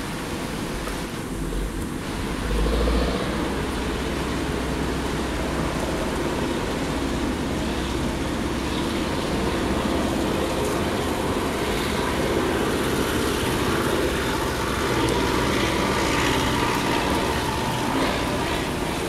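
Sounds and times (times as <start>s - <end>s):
rain on window glass: 0.0s - 19.0s
strong storm wind: 0.0s - 19.0s.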